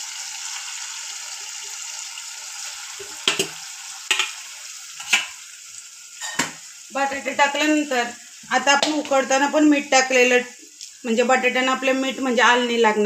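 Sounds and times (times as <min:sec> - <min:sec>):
paste sizzling in oil: 0:00.0 - 0:12.3.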